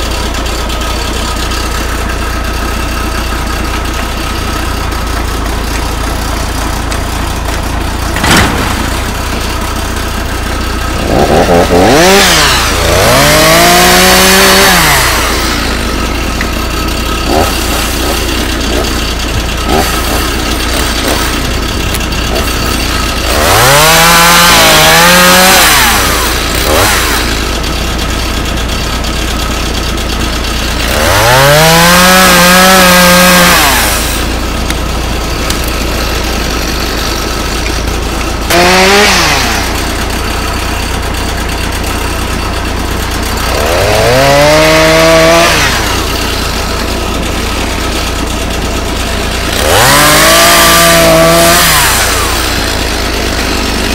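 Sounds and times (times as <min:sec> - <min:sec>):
chainsaw revving and idling: 0:00.0 - 0:53.9.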